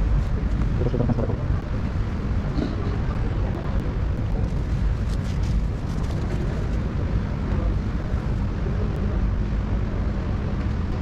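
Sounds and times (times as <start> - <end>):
faint hum: 0.0 - 11.0
low rumble of vehicle: 0.0 - 11.0.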